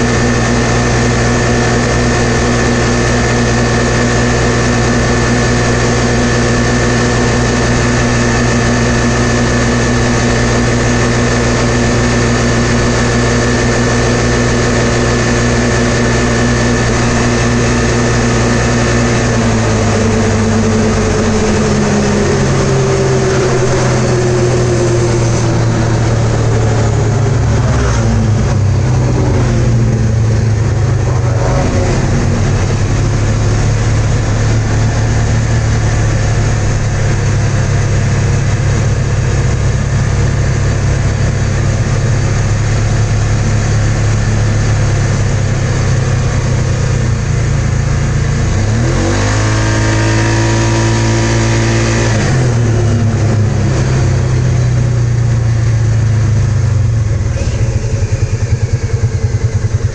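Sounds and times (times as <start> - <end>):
engine at high revs: 0.0 - 59.9.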